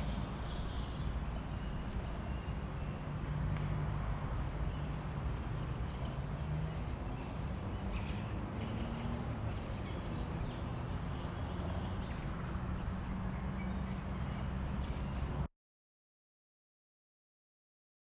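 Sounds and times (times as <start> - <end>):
distant engines rumbling: 0.0 - 15.5.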